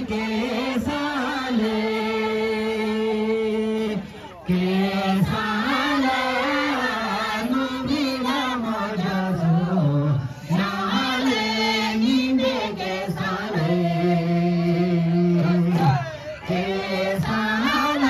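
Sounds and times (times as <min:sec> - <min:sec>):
crowd singing in unison: 0:00.0 - 0:18.0.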